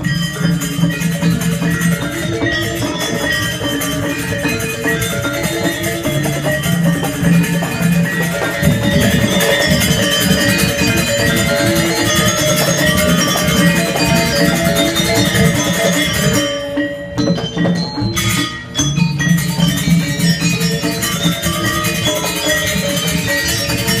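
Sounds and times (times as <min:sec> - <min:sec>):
barrel drums: 0:00.0 - 0:24.0
metallophones struck in patterns: 0:00.0 - 0:24.0.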